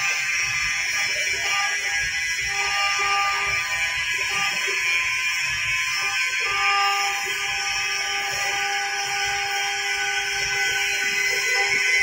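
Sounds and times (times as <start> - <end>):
wood router spindle whining: 0.0 - 12.0.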